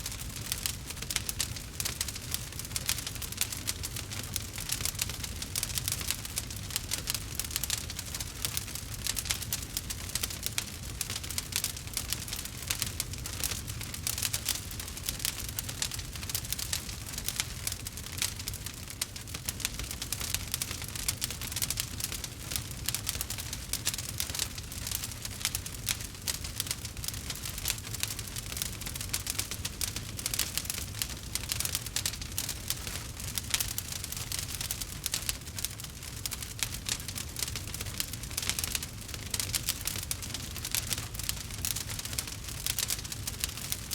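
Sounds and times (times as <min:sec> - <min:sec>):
campfire crackling and popping: 0:00.1 - 0:43.9.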